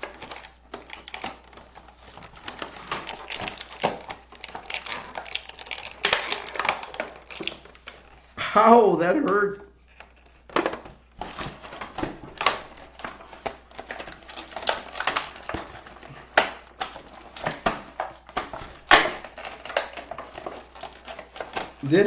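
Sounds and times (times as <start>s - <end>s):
packaging clicks and snaps: 0.0s - 8.2s, 9.9s - 21.9s
packaging rustling: 0.0s - 8.4s, 9.7s - 22.0s.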